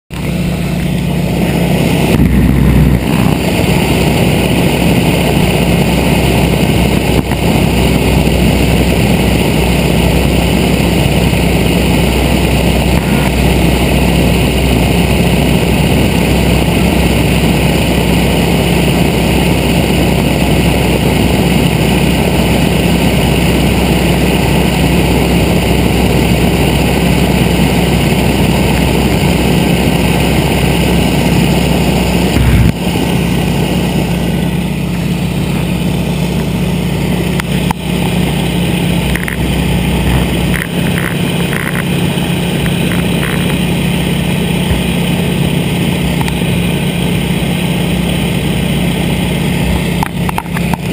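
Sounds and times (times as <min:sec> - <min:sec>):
airplane engine and propeller drone: 0:00.1 - 0:50.9
rushing air: 0:00.1 - 0:50.9.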